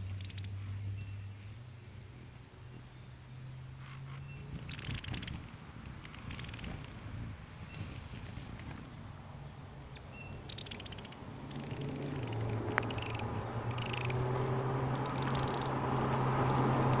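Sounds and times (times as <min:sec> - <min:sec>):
high chittering calls: 0:00.0 - 0:17.0
hummingbird wingbeats humming: 0:00.0 - 0:17.0.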